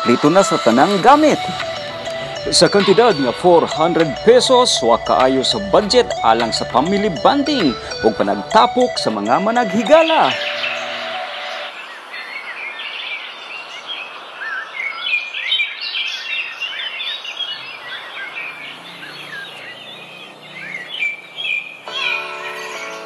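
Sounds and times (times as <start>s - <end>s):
small birds chirping: 0.0s - 23.0s
steady outdoor hiss: 0.0s - 23.0s.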